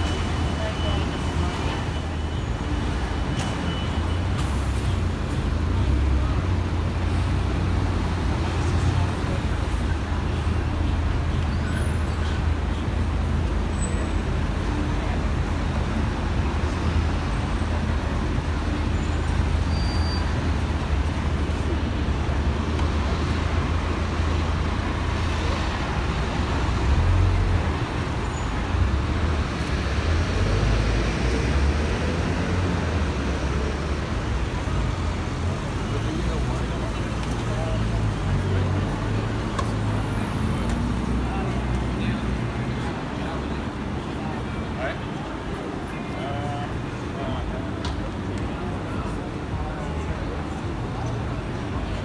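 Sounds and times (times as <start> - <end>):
city street traffic rumble: 0.0 - 52.0.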